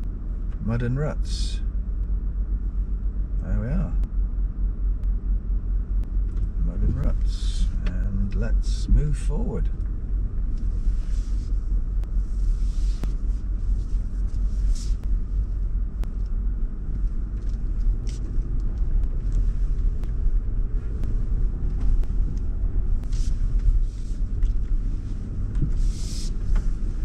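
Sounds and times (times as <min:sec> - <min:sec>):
engine and drivetrain rumble: 0:00.0 - 0:27.0.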